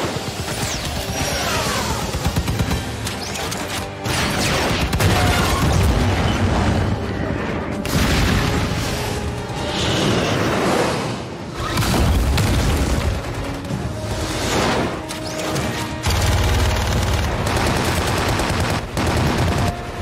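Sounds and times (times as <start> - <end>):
orchestral score: 0.0 - 20.0.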